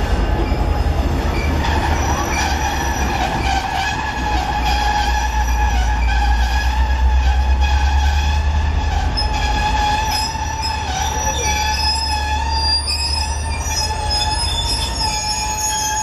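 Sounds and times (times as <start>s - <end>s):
low rumble of train: 0.0s - 16.0s
train wheels squealing: 0.0s - 16.0s.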